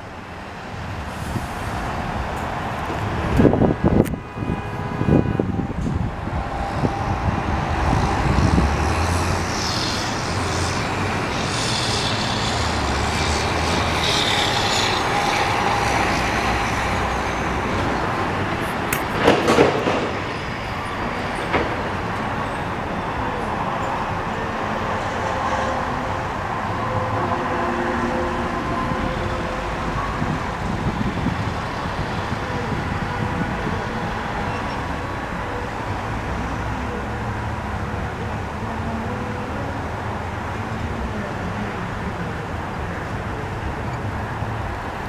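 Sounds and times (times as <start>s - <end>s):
heavy vehicle engines passing: 0.0s - 45.0s.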